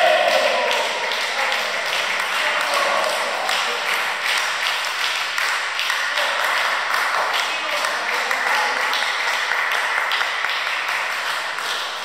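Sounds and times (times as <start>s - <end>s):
spectators clapping: 0.0s - 12.0s.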